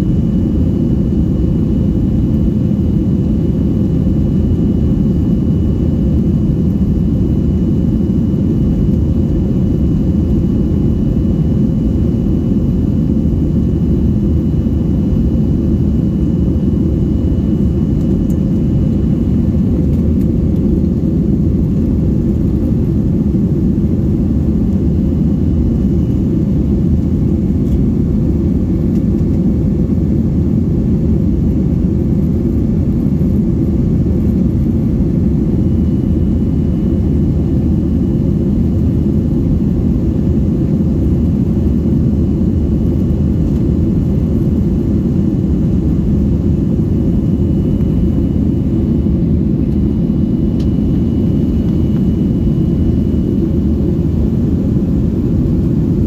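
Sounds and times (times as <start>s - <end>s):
faint high whine: 0.0s - 56.0s
jet engines and rushing air: 0.0s - 56.0s.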